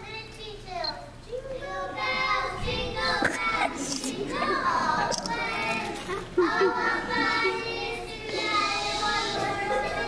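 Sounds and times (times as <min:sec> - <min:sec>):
children singing: 0:01.6 - 0:10.0.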